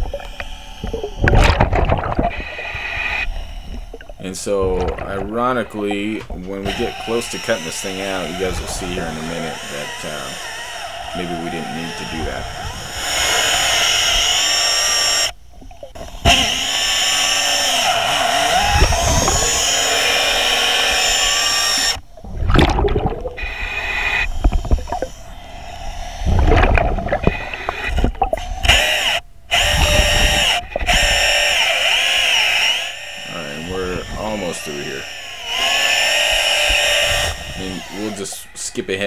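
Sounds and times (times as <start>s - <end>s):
underwater chainsaw whine: 0.0s - 39.0s.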